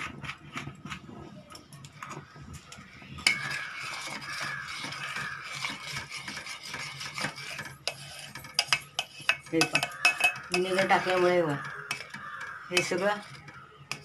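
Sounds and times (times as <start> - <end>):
spoon scraping metal pot: 0.0 - 14.0.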